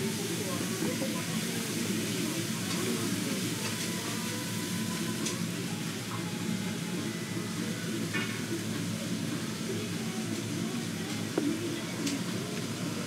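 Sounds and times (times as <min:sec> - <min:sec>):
low murmur of voices: 0:00.0 - 0:13.0.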